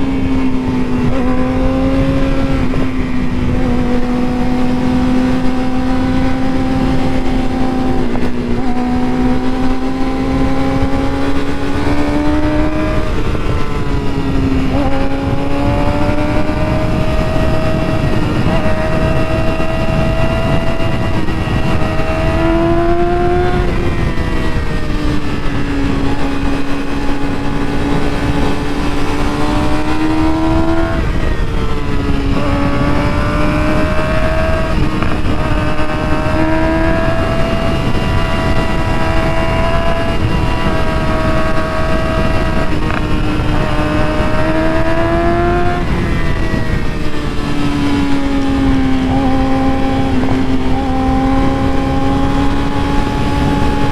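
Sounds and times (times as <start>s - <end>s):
motorcycle engine: 0.0s - 53.9s
wind noise on microphone: 0.0s - 53.9s.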